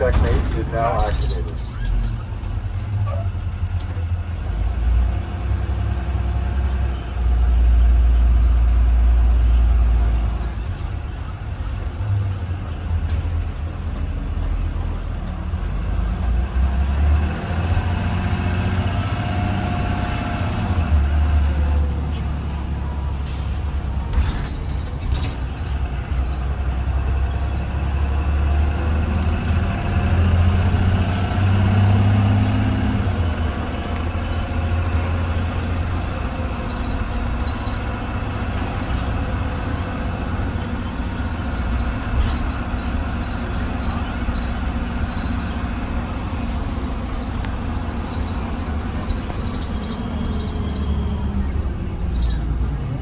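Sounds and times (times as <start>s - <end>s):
bus engine drone: 0.0s - 53.0s
road noise: 0.0s - 53.0s.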